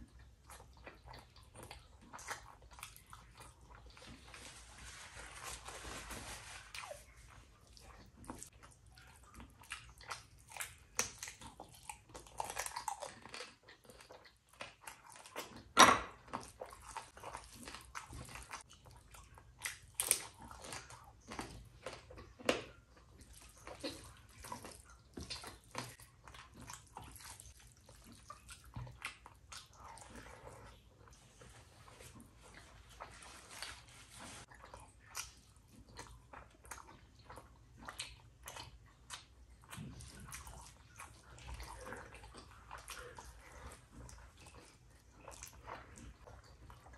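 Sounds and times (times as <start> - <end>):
person chewing with mouth clicks: 6.8 - 46.9.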